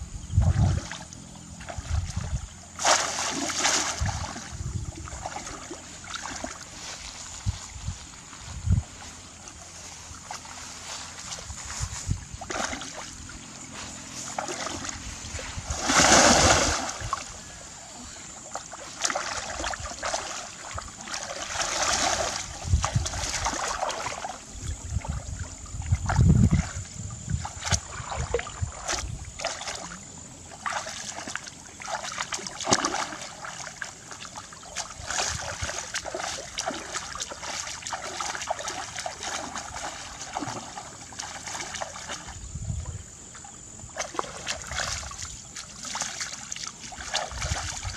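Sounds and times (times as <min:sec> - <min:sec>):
water splashing and sloshing: 0:00.0 - 0:47.9.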